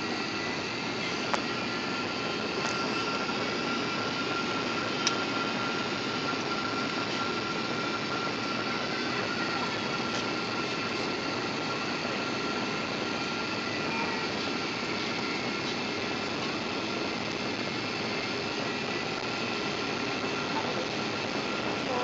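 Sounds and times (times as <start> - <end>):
thin steady whine: 0.0 - 22.0.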